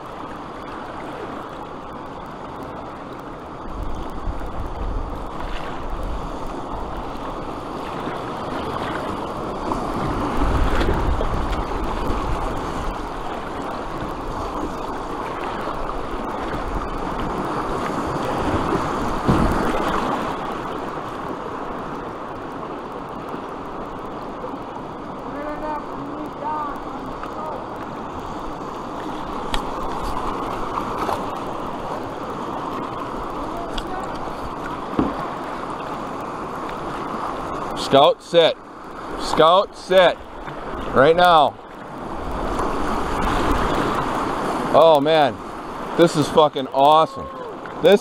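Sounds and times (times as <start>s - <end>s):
river water rushing: 0.0s - 48.0s
wind rumble on microphone: 2.2s - 37.7s, 41.8s - 44.8s.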